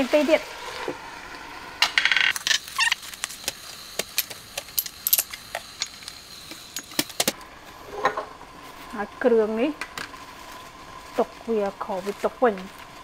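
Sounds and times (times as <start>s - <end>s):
low steady hiss from wok: 0.0s - 13.0s.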